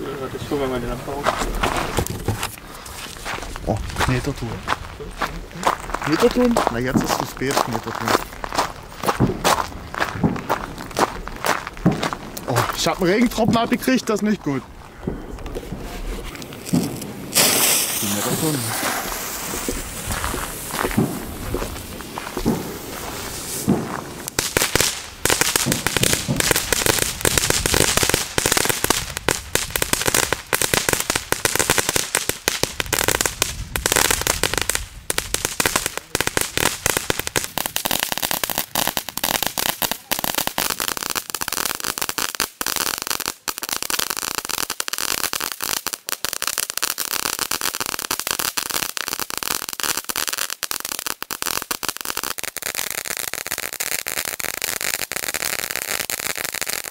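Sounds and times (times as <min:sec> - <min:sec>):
firework fountain crackling: 0:00.0 - 0:56.9.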